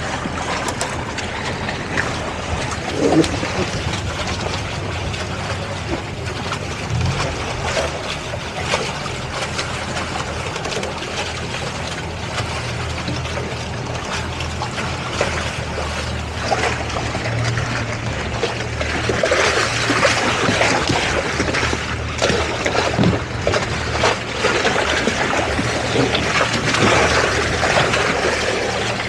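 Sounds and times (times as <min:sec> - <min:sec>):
outboard engines humming: 0:00.0 - 0:29.0
water splashing between hulls: 0:00.0 - 0:29.0.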